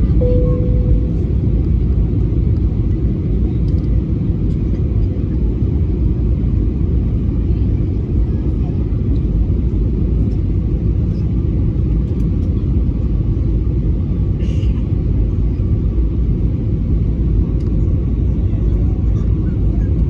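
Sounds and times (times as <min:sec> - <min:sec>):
aircraft engines: 0:00.0 - 0:20.0
airflow over fuselage: 0:00.0 - 0:20.0.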